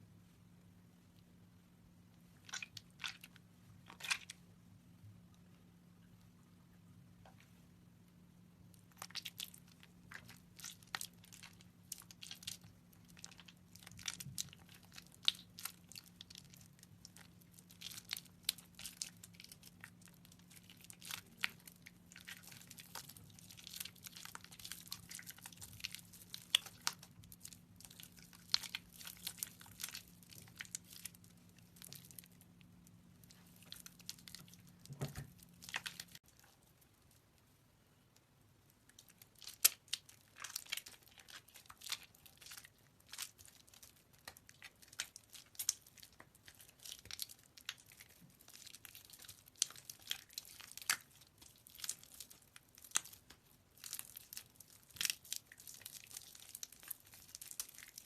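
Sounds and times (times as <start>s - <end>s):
wet soap crackling and crunching: 2.1s - 4.5s, 8.5s - 58.0s.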